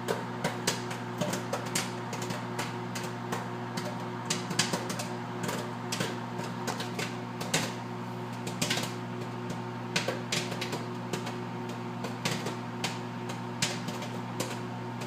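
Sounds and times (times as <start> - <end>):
microwave oven hum: 0.0 - 15.0
popcorn popping: 0.0 - 15.0.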